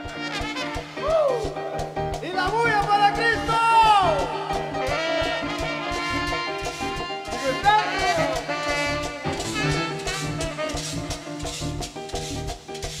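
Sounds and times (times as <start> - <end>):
live band with brass horns: 0.0 - 1.8, 4.1 - 13.0.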